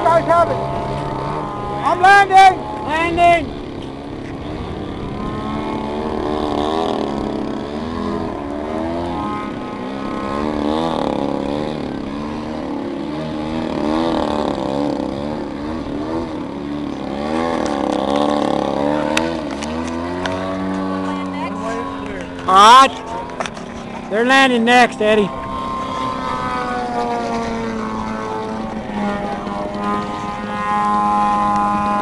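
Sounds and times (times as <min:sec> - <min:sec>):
model airplane engines: 0:00.0 - 0:32.0.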